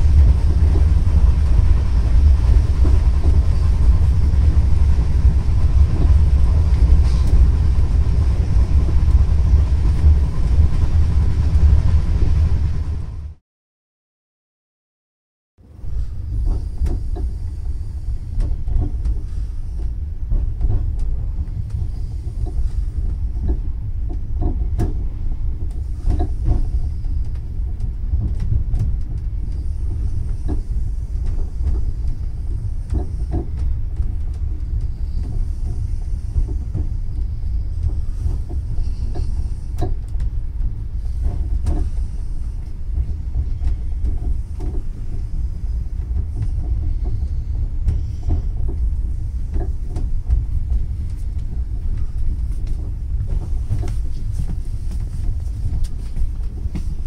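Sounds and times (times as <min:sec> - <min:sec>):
train rumbling on rails: 0:00.0 - 0:13.4, 0:15.6 - 0:57.0.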